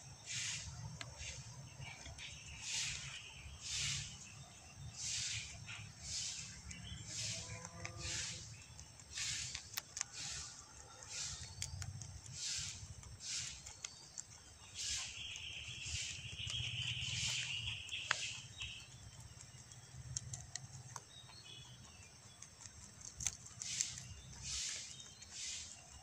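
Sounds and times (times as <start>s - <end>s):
rabbit chewing leaf: 0.2s - 26.0s.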